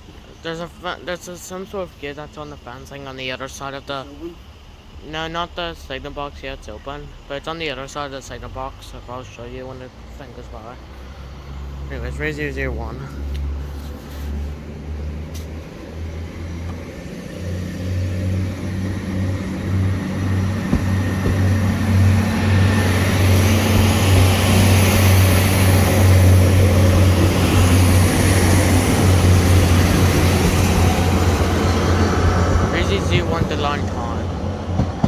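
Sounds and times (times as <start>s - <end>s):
diesel train passing: 0.0s - 35.0s.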